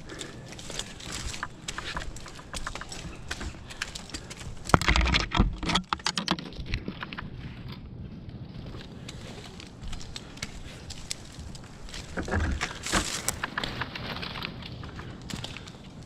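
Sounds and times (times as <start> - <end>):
climbing gear clicking on bark: 0.0 - 7.8, 8.6 - 16.0.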